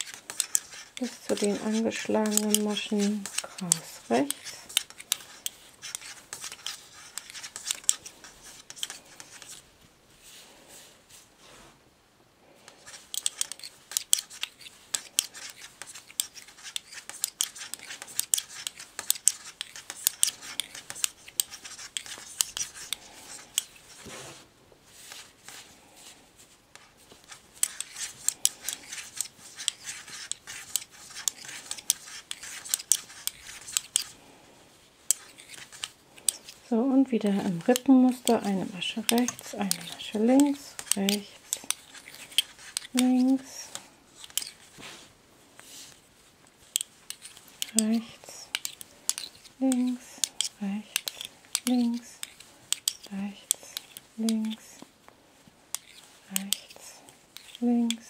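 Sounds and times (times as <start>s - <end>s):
knitting needles clicking: 0.0s - 9.6s, 12.7s - 23.7s, 26.8s - 34.2s, 35.1s - 44.6s, 46.7s - 54.8s, 55.7s - 58.0s.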